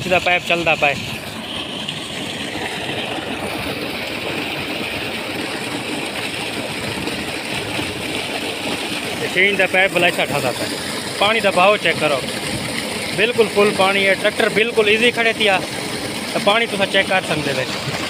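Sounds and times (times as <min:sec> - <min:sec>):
water pouring from pipe: 0:00.0 - 0:18.0.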